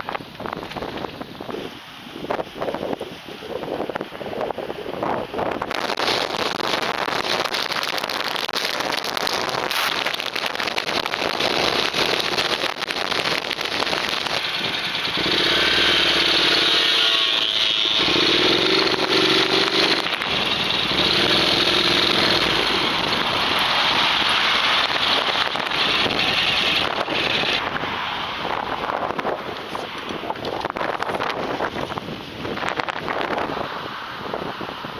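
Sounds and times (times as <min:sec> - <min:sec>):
wind buffeting microphone: 0:00.0 - 0:34.9
engine-like hum: 0:03.8 - 0:34.9.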